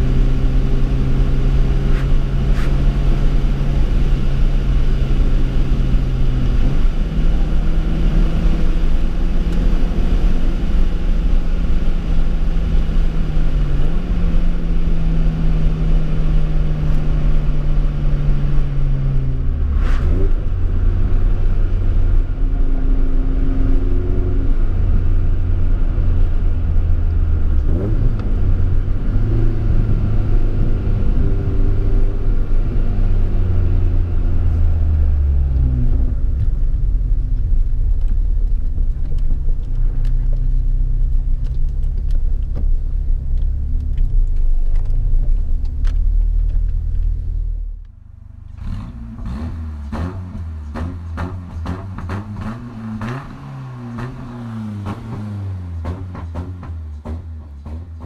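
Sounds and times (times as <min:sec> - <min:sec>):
car engine revving: 0:00.0 - 0:39.2, 0:43.1 - 0:58.0.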